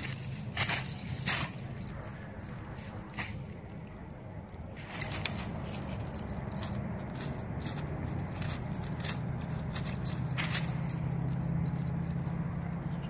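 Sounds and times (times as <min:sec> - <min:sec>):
light metallic jingling: 0:00.0 - 0:03.8, 0:04.6 - 0:13.0
steady low hum: 0:00.0 - 0:13.0.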